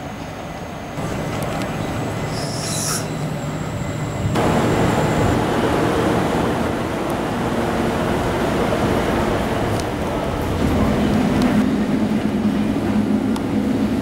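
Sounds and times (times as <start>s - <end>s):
train rushing: 0.0s - 14.0s.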